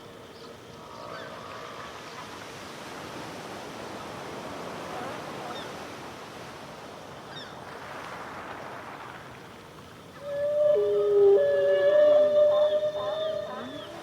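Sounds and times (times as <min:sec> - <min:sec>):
ocean water washing: 0:00.0 - 0:14.0.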